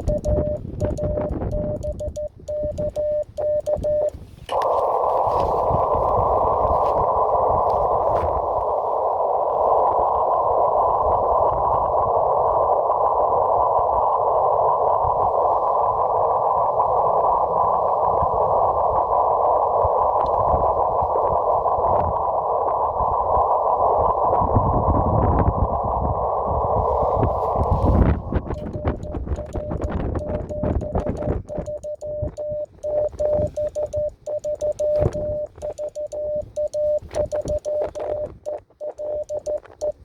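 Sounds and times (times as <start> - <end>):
receiver hiss: 0.0 - 40.0.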